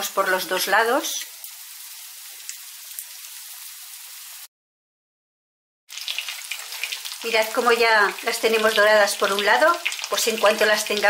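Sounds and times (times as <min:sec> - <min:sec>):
meat sizzling in a frying pan: 0:00.0 - 0:04.5, 0:05.9 - 0:11.0.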